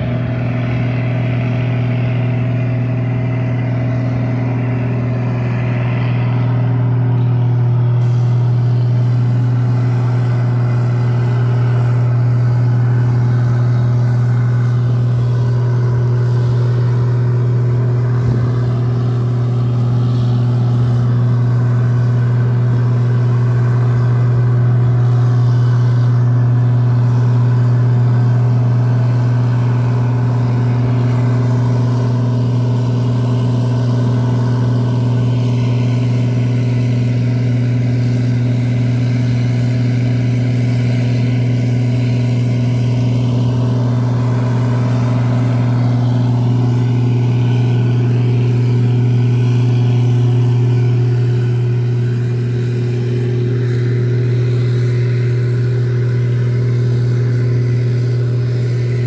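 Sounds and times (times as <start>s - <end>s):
generator engine humming: 0.0s - 59.0s.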